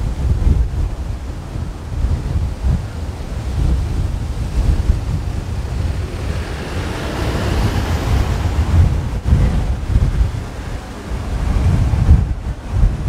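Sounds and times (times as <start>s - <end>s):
rushing noise: 0.0s - 13.0s
wind buffeting microphone: 0.0s - 13.0s.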